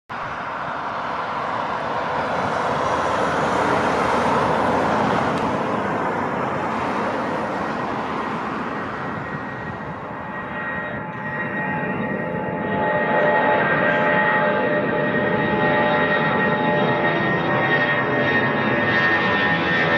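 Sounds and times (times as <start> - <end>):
jet engine roar: 0.1 - 19.9.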